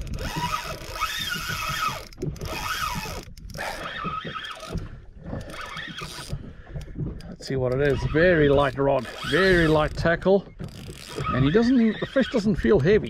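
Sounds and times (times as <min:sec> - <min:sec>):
fishing reel gears whirring: 0:00.0 - 0:06.8, 0:07.7 - 0:13.0.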